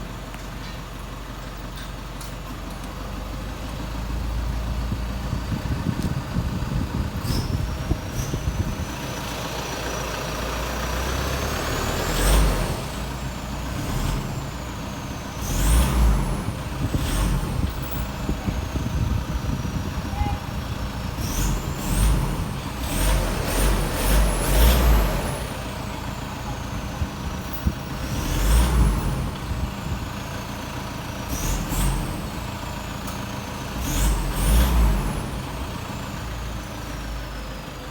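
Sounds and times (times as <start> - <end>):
diesel engine revving: 2.8 - 37.9.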